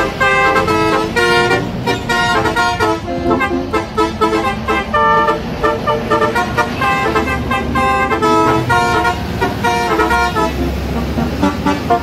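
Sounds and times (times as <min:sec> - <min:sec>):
musical truck horn tune: 0:00.0 - 0:12.0
truck engines rumbling: 0:00.0 - 0:12.0.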